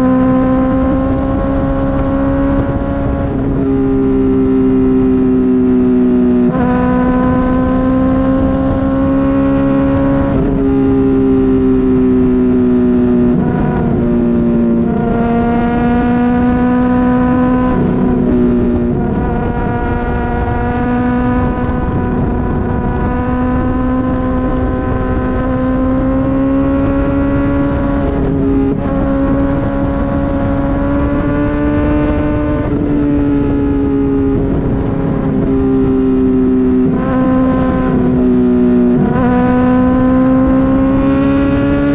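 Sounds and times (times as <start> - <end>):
motorcycle engine at high revs: 0.0 - 41.9.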